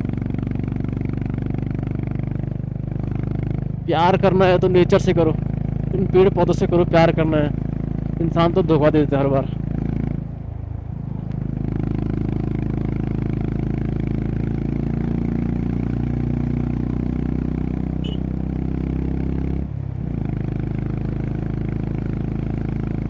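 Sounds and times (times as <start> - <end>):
motorcycle engine and exhaust: 0.0 - 23.0.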